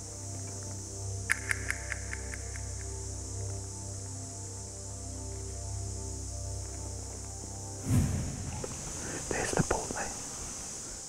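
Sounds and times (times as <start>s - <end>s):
ambient music with low drone: 0.0s - 11.0s.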